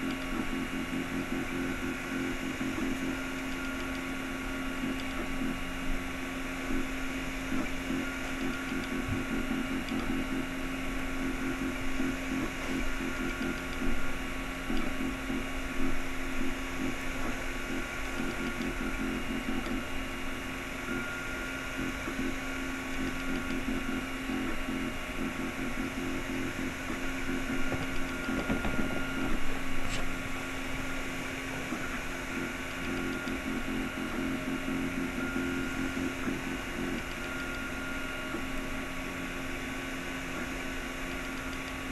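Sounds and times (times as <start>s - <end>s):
fans humming: 0.0s - 41.9s.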